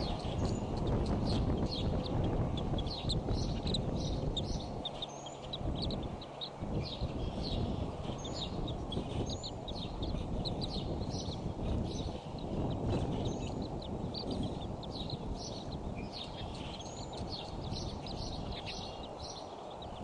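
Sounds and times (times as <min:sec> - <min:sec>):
birds chirping: 0:00.0 - 0:20.0
low rushing background: 0:00.0 - 0:20.0.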